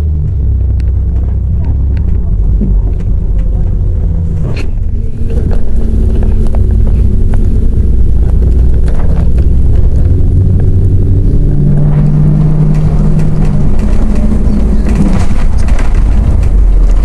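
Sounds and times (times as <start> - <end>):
bus diesel engine drone: 0.0 - 17.0
body rattles and knocks: 0.2 - 17.0.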